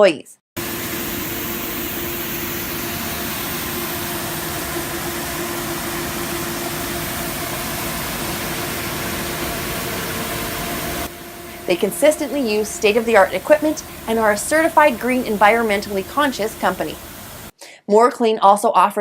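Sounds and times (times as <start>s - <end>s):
machine engine running: 0.6s - 17.5s.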